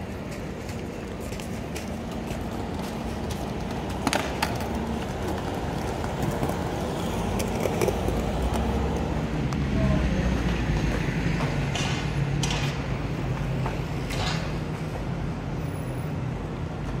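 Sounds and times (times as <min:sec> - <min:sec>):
passing road vehicles: 0:00.0 - 0:17.0.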